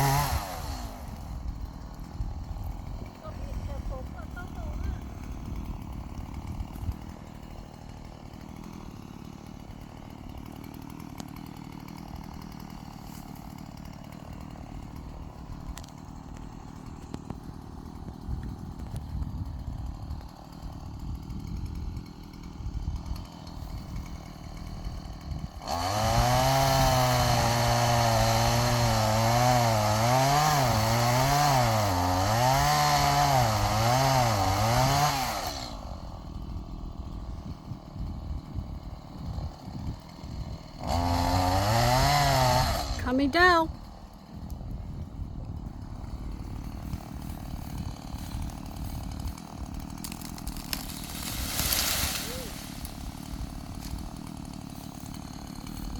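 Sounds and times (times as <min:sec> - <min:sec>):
chainsaw idling and cutting wood: 0:00.0 - 0:55.9.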